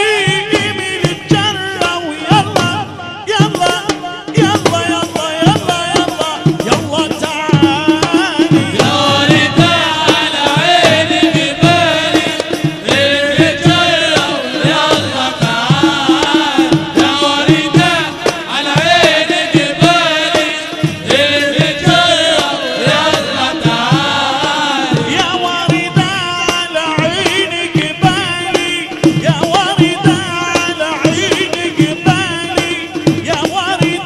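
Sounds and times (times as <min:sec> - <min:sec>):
man singing ornamented melody: 0:00.0 - 0:34.0
steady drum beat: 0:00.0 - 0:34.0.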